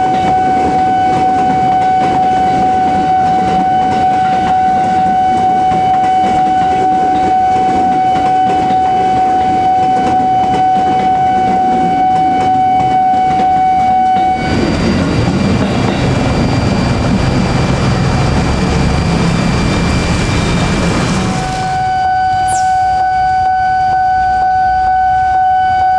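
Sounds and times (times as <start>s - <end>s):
high-pitched warning tone: 0.0s - 25.9s
low rumble of train: 0.0s - 25.9s.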